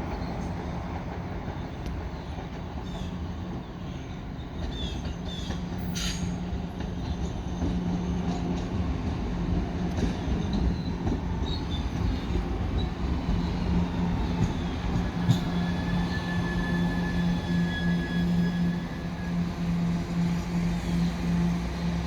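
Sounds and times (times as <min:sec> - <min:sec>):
electric train hum: 0:00.0 - 0:22.0.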